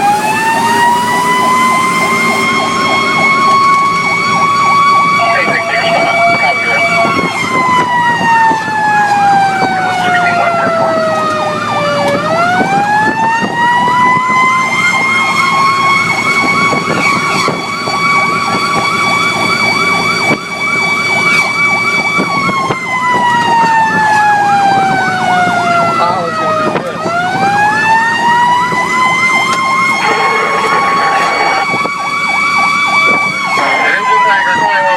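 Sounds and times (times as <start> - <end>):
wailing siren: 0.0 - 34.9
yelping siren: 0.0 - 34.9.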